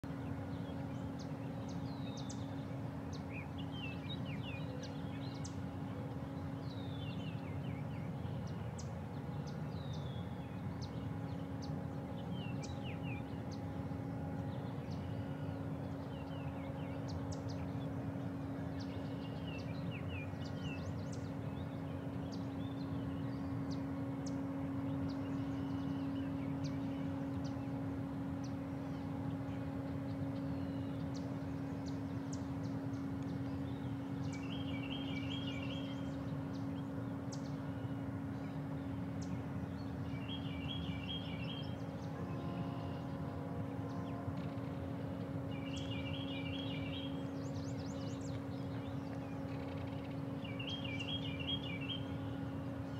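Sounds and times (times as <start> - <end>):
droning hum: 0.0 - 52.9
birds chirping: 0.6 - 52.9.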